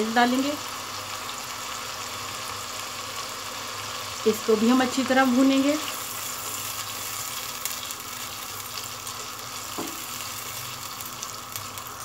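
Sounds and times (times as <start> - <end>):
ghee sizzling in a pot: 0.0 - 12.0.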